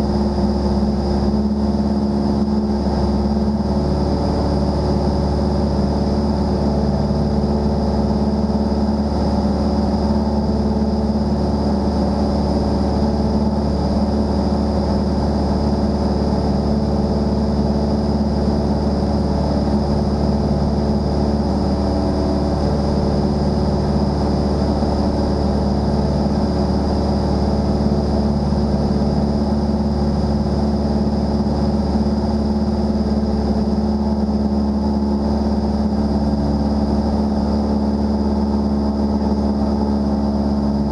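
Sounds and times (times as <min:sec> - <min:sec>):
propeller airplane engine droning: 0:00.0 - 0:40.9.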